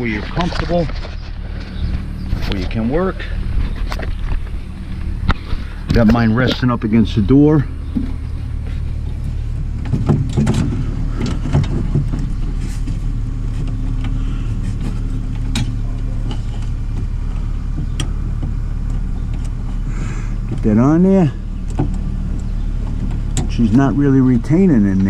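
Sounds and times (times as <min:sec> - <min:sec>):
low mechanical hum: 0:00.0 - 0:25.0
parts clicking and knocking: 0:00.0 - 0:25.0.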